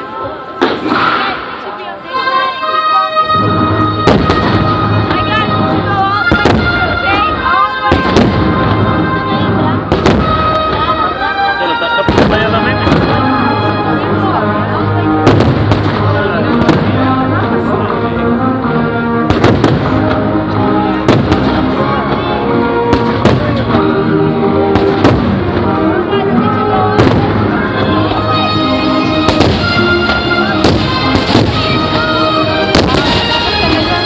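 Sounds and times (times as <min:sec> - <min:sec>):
fireworks bursting: 0:00.0 - 0:18.0, 0:19.2 - 0:24.0, 0:24.6 - 0:34.0
loud show music: 0:03.0 - 0:34.0.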